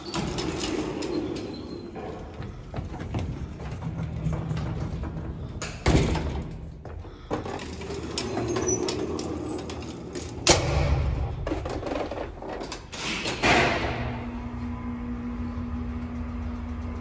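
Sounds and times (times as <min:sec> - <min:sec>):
elevator low hum: 0:00.0 - 0:17.0.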